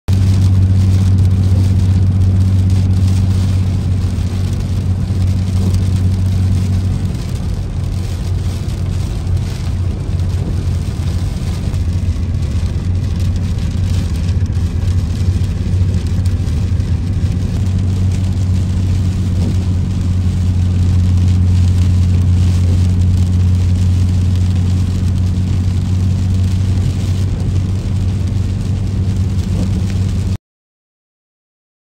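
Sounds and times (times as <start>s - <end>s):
car engine and road drone: 0.1s - 30.4s
rain falling: 0.1s - 30.4s.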